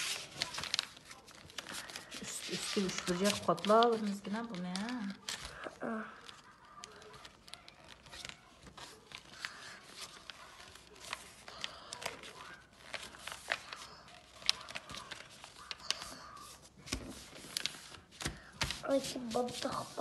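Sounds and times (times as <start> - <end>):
paper creasing clicks: 0.0 - 20.0
paper rustling and crinkling: 0.0 - 20.0.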